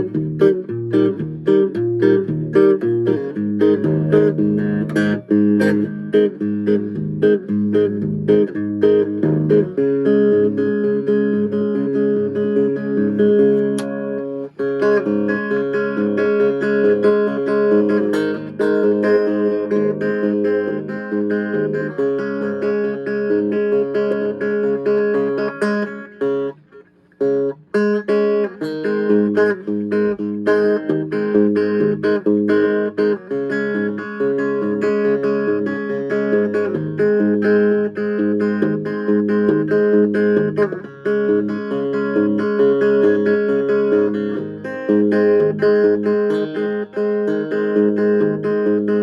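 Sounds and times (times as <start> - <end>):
plucked guitar notes: 0.0 - 49.0.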